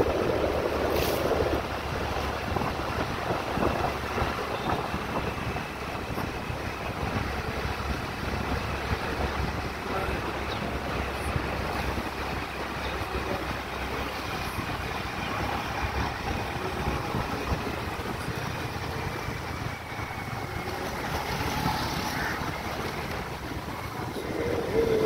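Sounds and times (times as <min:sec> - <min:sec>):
scooter engine: 0:00.0 - 0:25.0
wind buffeting microphone: 0:00.0 - 0:25.0.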